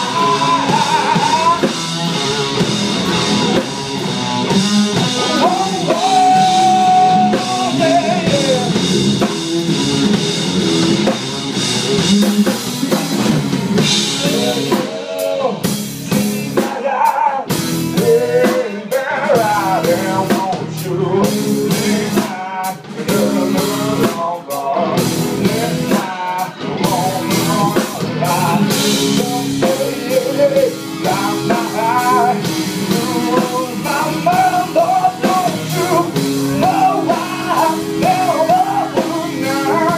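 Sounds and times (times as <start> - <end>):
electric bass: 0.0 - 16.7, 17.4 - 39.9
drum kit: 0.0 - 39.9
electric guitar: 0.0 - 39.9.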